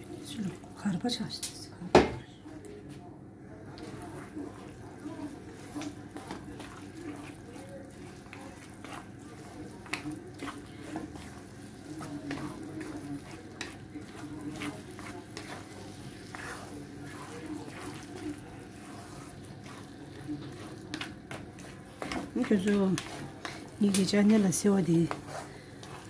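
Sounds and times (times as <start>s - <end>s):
soft sizzle of food: 0.0s - 26.0s
spatula scraping a pan: 3.8s - 26.0s.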